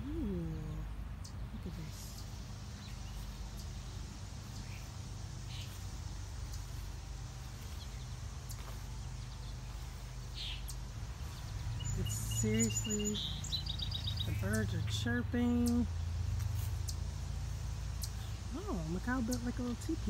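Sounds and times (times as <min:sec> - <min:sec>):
low rumble on microphone: 0:00.0 - 0:19.0.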